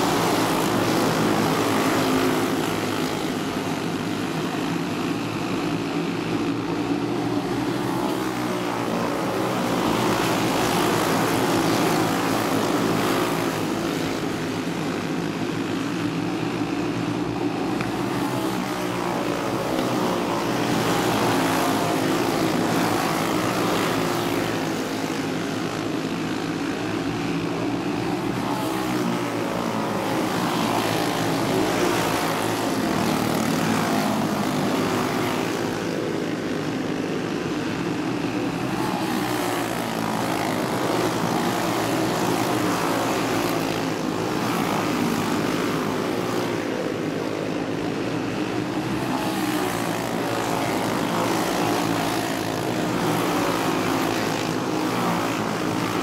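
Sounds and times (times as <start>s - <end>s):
racing kart engines buzzing: 0.0s - 56.0s.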